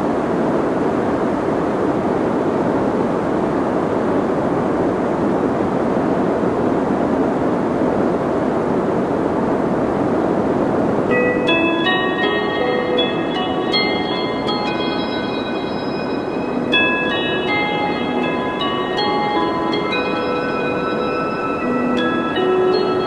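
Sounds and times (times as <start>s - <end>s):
soft white noise hiss: 0.0s - 23.0s.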